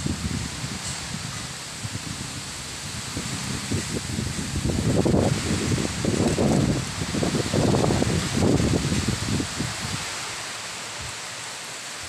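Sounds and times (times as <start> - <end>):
rain falling on grass and trees: 0.0 - 12.0
wind gusting on microphone: 0.0 - 12.0.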